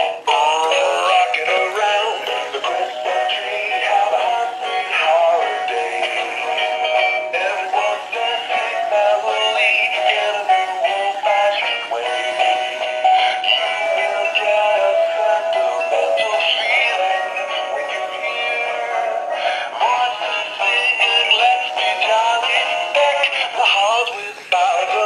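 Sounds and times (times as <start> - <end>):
christmas song from small speaker: 0.0 - 25.0.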